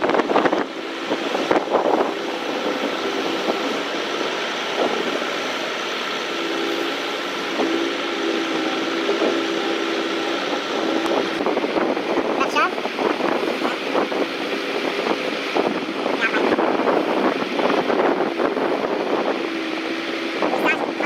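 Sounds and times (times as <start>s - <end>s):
machine engine running: 0.0s - 21.0s.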